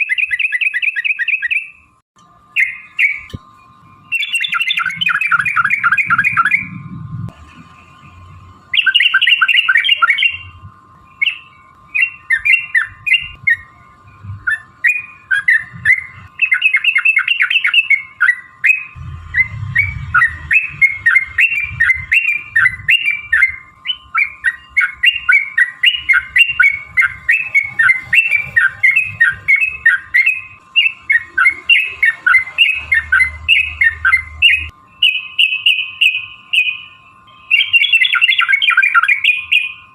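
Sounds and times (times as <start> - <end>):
faint steady tone: 1.6 - 39.9
bird song bubbling chatter: 2.5 - 6.8, 8.7 - 39.8.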